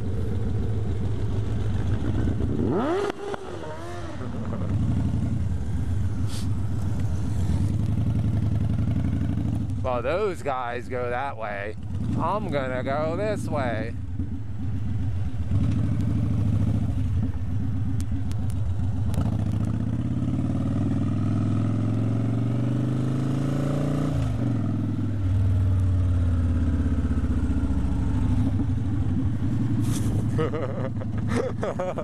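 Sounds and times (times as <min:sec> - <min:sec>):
motorcycle engine accelerating: 0:00.0 - 0:10.4, 0:11.8 - 0:32.0.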